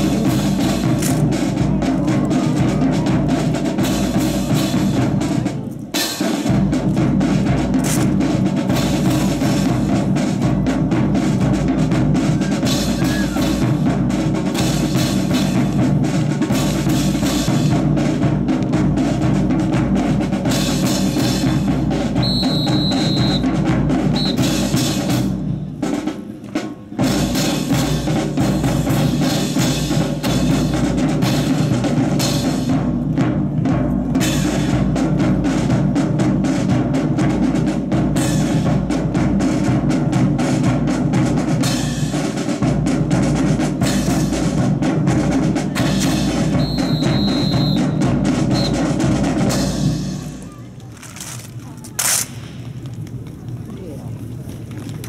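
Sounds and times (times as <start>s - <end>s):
marching snare and bass drums: 0.0s - 54.2s.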